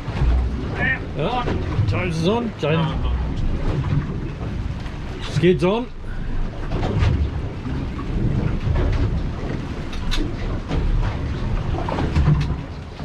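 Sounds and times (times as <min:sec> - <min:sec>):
gusting wind: 0:00.0 - 0:13.0
low rumble: 0:00.0 - 0:13.0.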